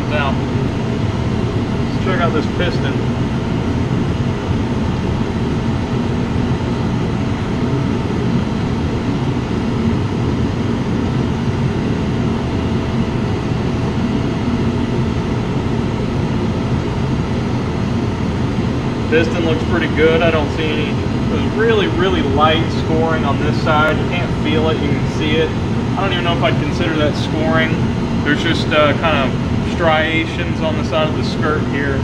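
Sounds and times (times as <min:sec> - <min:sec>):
faint high whine: 0:00.0 - 0:32.0
steady mechanical drone: 0:00.0 - 0:32.0.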